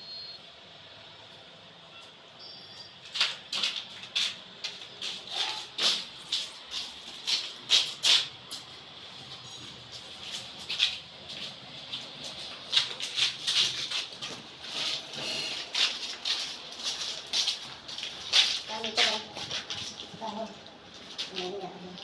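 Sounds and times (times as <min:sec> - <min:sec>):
footsteps on gritty concrete: 0:03.1 - 0:22.0.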